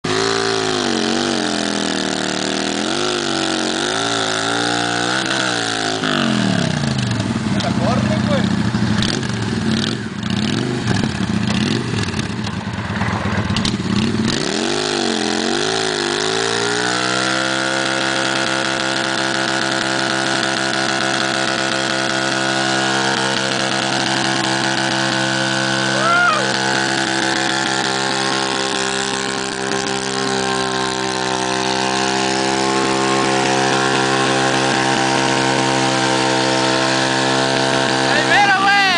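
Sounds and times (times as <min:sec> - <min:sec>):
motorcycle engine revving: 0:00.0 - 0:38.9
rear tyre spinning: 0:00.0 - 0:38.9.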